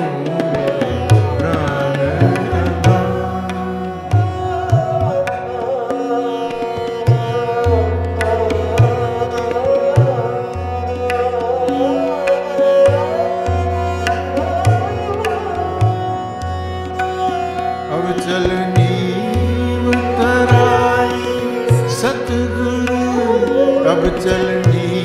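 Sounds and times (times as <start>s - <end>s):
harmonium melody: 0.0s - 25.0s
tabla drumming: 0.0s - 25.0s.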